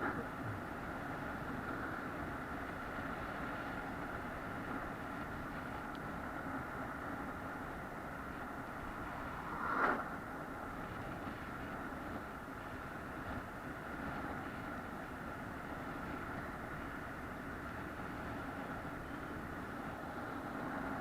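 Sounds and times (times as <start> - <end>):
moving vehicle running noise: 0.0 - 21.0.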